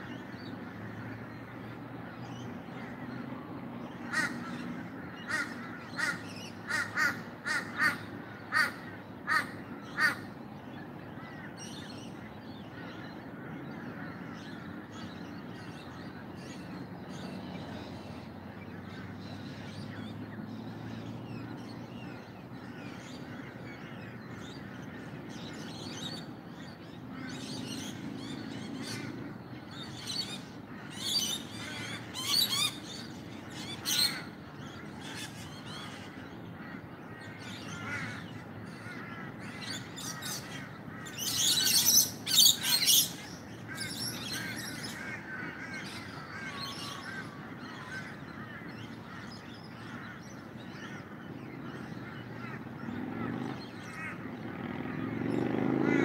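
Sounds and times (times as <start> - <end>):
birds chirping and calling: 0.0 - 56.0
loud harsh bird calls: 0.0 - 56.0.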